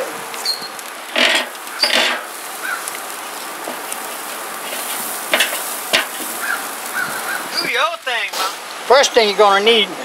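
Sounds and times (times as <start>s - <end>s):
scraping across grill bars: 0.0s - 9.3s
sausage sizzling on a grill: 0.0s - 10.0s.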